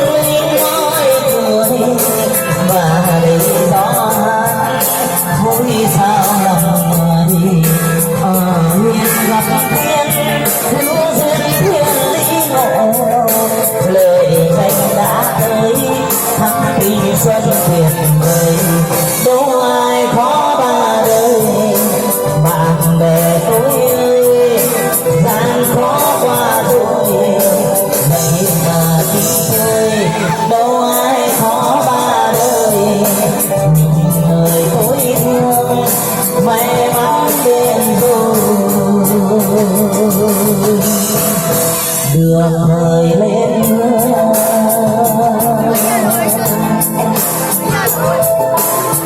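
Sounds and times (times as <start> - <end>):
upbeat song with lead melody: 0.0 - 49.0.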